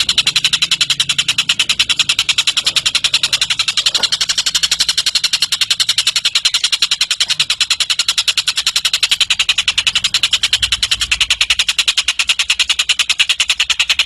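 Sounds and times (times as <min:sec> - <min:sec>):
bird rapid trill: 0:00.0 - 0:14.0.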